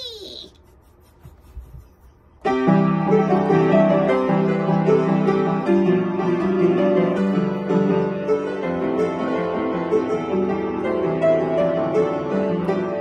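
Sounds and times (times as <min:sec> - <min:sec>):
piano playing: 0:02.4 - 0:13.0.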